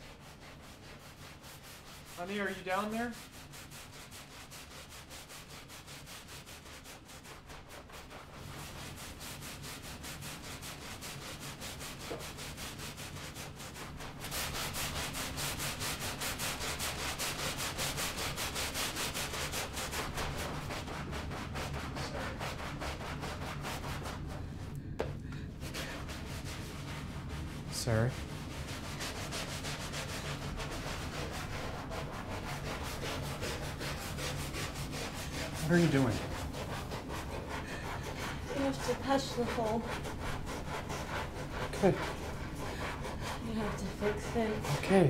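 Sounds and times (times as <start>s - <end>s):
cloth scrubbing a soapy floor: 0.0s - 24.7s, 25.5s - 45.0s.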